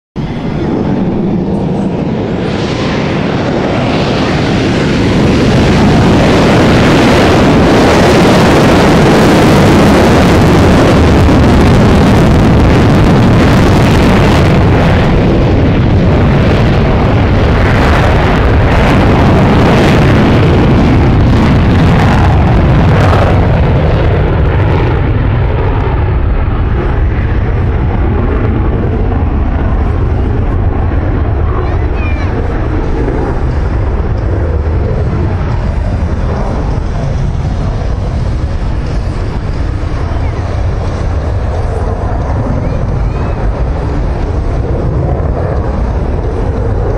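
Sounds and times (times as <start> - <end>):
jet engine rumble: 0.2 - 46.9.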